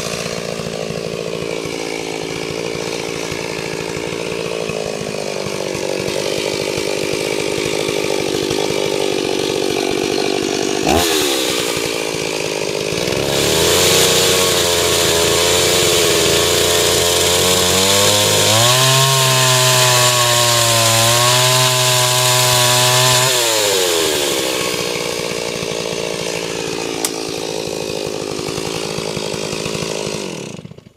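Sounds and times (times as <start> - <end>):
chainsaw idling and revving: 0.0 - 30.9.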